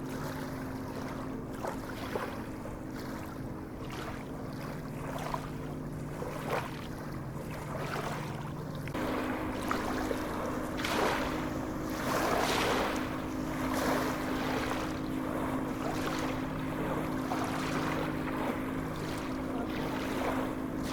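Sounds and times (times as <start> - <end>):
low steady hum: 0.0 - 20.9
sea waves breaking: 0.0 - 20.9.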